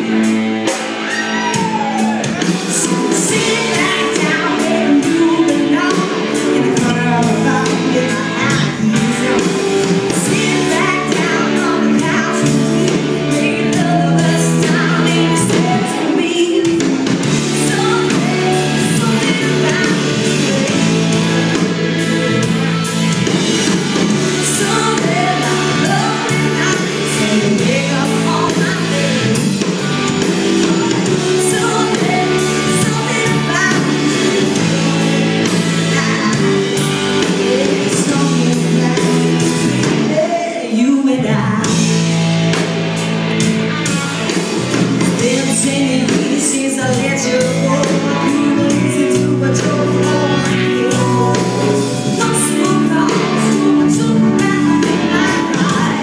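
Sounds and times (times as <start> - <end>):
woman singing: 0.0 - 42.1, 45.0 - 56.0
live rock band playing: 0.0 - 56.0.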